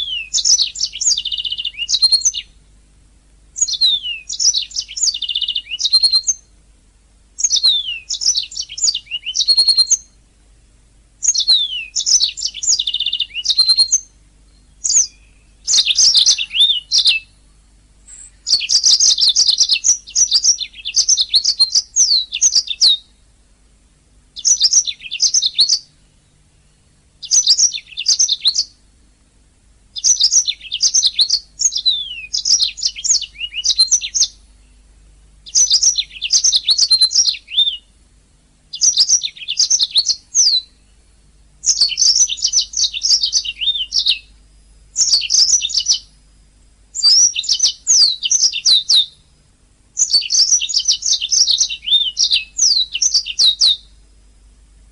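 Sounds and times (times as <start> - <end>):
canary singing: 0.0 - 2.7, 3.6 - 6.6, 7.4 - 10.2, 11.2 - 23.3, 24.3 - 28.9, 29.9 - 38.0, 38.7 - 46.3, 46.9 - 49.3, 50.0 - 54.0.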